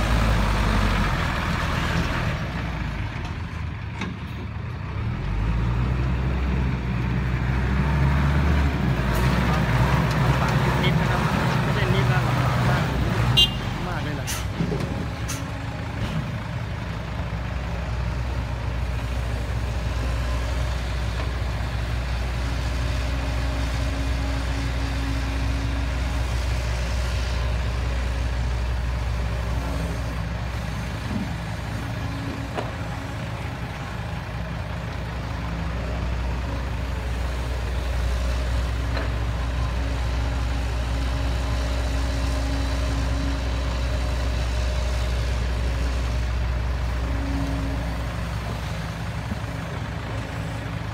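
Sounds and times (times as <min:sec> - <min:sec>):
heavy diesel engine drone: 0:00.0 - 0:50.9.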